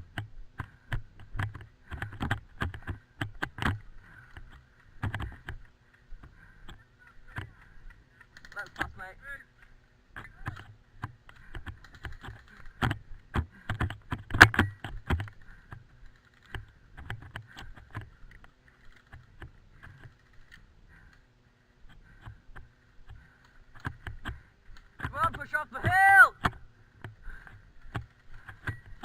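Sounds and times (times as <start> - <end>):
gear rattling: 0.6 - 25.8.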